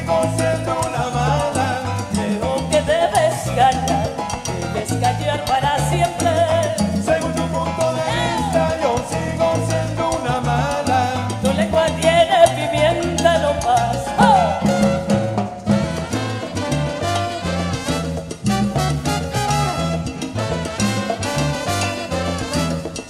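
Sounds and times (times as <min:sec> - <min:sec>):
live salsa band playing: 0:00.0 - 0:23.0.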